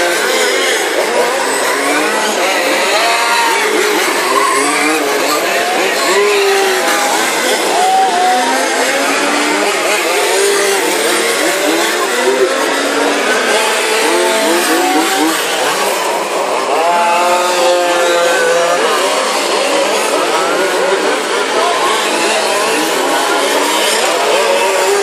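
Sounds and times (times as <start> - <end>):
model race car engines: 0.0 - 25.0.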